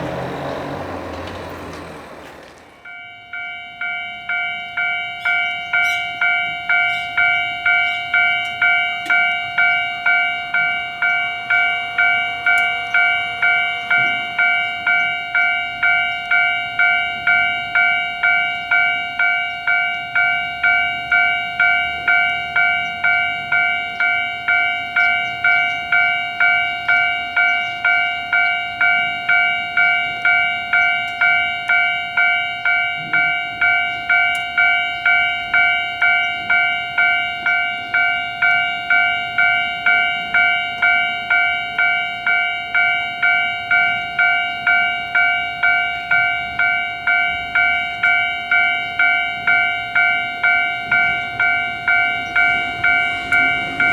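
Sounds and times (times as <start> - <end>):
level-crossing alarm clanging: 0.0 - 53.9.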